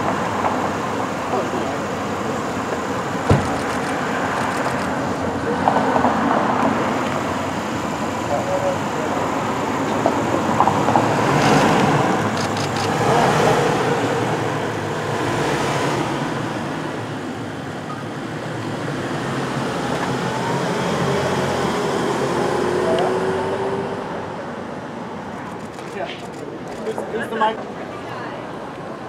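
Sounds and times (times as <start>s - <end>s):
car driving off: 0.0s - 26.1s
city traffic noise: 0.0s - 29.0s.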